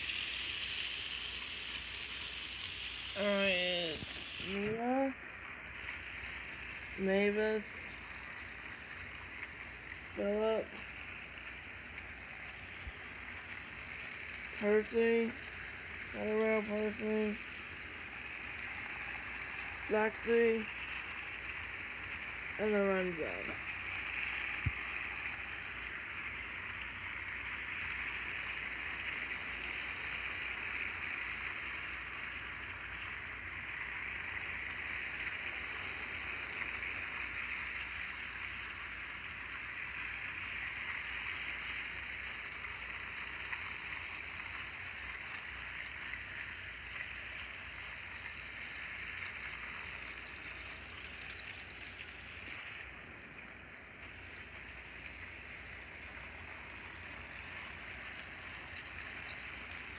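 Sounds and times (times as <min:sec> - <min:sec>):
toy train motors whirring: 0:00.0 - 0:59.9.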